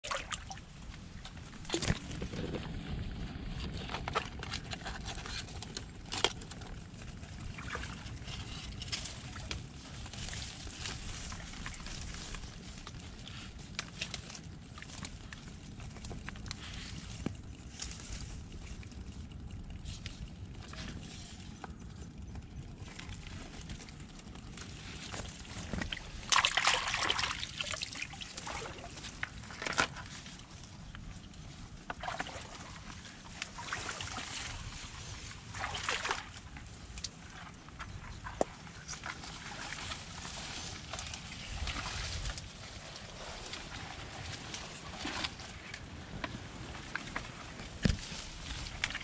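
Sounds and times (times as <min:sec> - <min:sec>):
mud squelching and sloshing: 0:00.0 - 0:49.0.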